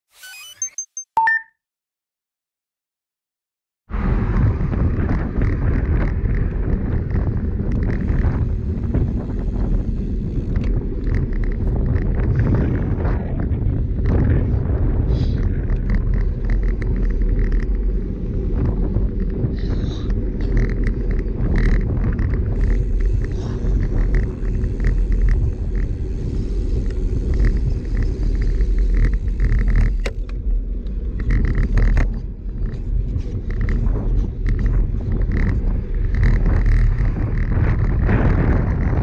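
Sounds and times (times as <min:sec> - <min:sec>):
road rumble: 0:03.9 - 0:39.0
wind buffeting: 0:03.9 - 0:39.0
bike clicks and rattles: 0:04.3 - 0:39.0.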